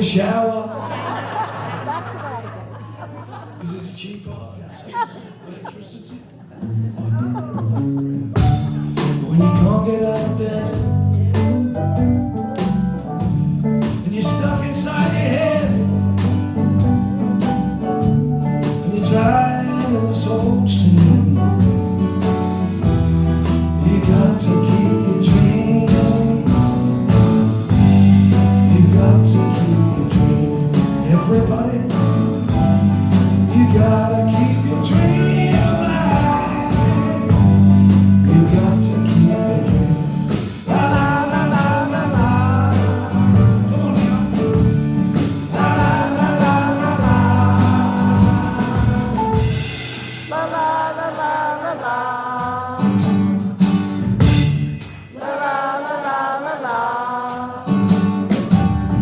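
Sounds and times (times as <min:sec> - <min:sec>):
live band playing: 0:06.6 - 0:59.0.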